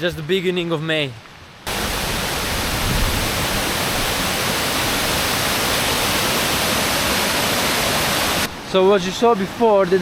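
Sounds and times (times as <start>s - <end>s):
waterfall rushing: 1.6s - 10.0s.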